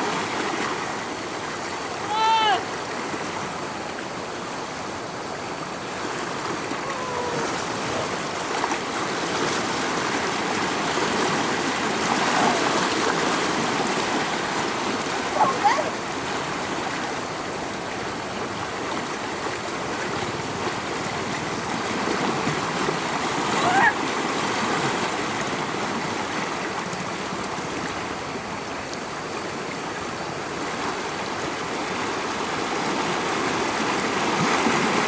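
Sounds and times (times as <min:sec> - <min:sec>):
water rushing and gurgling: 0:00.0 - 0:35.0.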